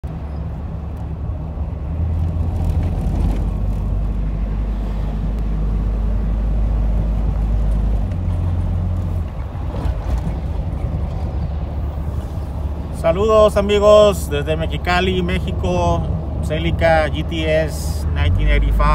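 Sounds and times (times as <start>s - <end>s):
car engine droning: 0.0s - 18.9s
road noise: 0.0s - 18.9s.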